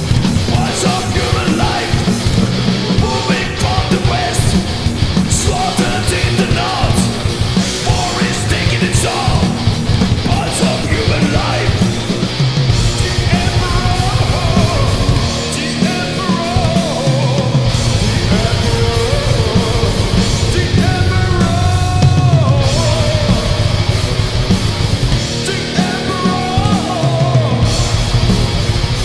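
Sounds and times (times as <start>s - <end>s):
thrash metal music: 0.0s - 29.0s
wavering melodic guitar line: 0.0s - 29.0s.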